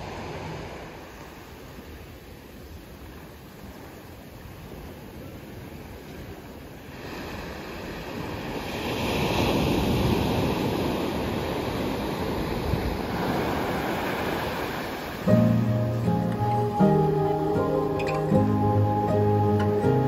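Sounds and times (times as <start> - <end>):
waves breaking on beach: 0.0 - 18.4.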